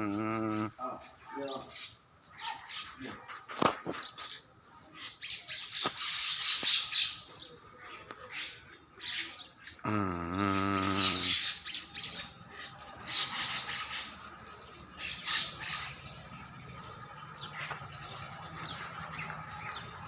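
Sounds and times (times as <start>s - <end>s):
birds squawking: 0.0s - 20.0s.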